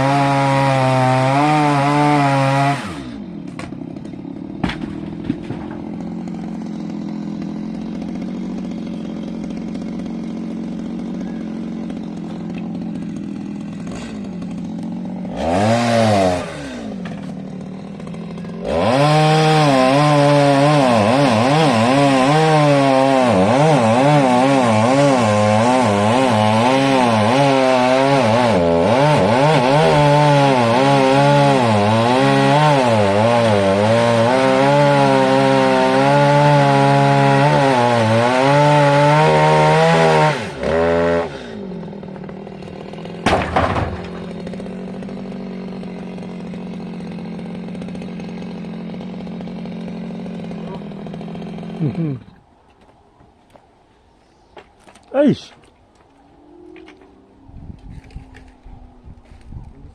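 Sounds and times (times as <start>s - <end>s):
chainsaw cutting wood: 0.0s - 53.6s, 54.6s - 59.9s.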